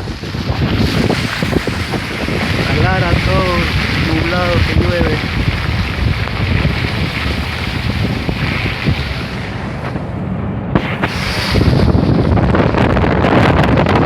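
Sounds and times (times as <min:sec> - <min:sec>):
heavy rain: 0:00.0 - 0:14.0
wind buffeting microphone: 0:00.0 - 0:14.0.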